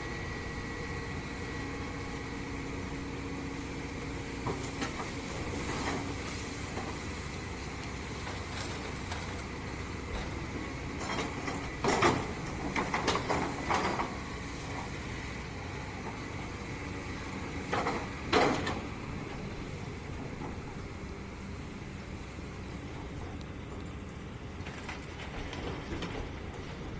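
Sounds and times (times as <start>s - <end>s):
excavator engine running: 0.0s - 26.9s.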